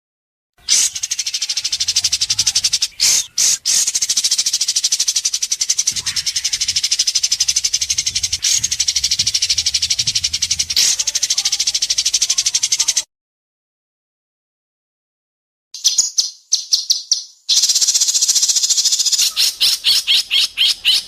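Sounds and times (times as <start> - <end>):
bird rapid rattling call: 0.6 - 13.0, 15.8 - 21.0.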